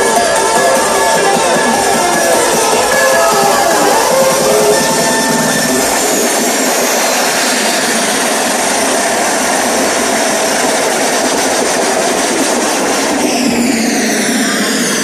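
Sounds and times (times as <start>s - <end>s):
rushing noise over sound system: 0.0s - 15.0s.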